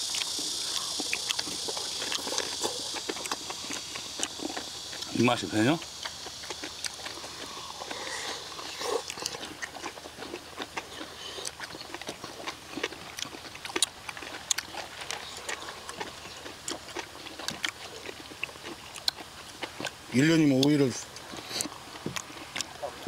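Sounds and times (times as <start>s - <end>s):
people chewing and slurping: 0.0s - 23.0s.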